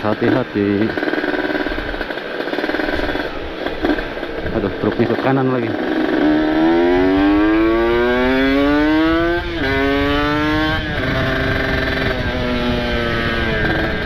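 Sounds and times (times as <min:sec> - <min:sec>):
two-stroke motorcycle engine revving: 0:00.0 - 0:14.0
wind and road noise: 0:00.0 - 0:14.0.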